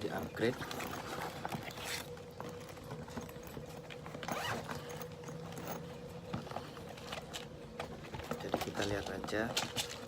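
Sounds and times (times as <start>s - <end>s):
faint steady hum: 0.0s - 10.0s
objects being handled: 0.0s - 10.0s.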